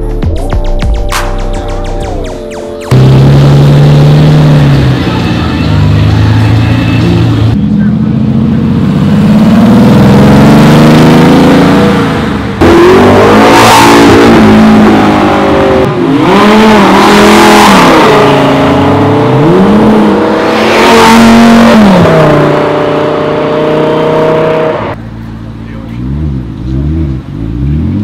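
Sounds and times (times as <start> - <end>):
sports cars revving and passing: 2.9 - 28.0.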